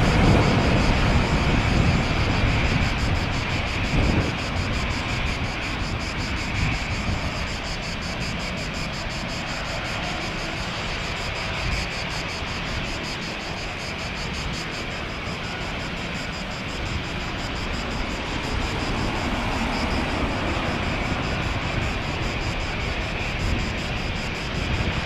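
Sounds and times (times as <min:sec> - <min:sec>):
jet engine roar at takeoff: 0:00.0 - 0:25.0.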